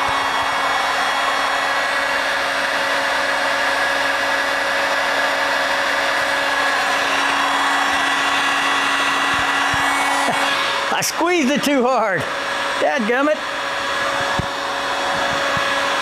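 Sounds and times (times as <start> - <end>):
heat gun whirring: 0.0 - 16.0.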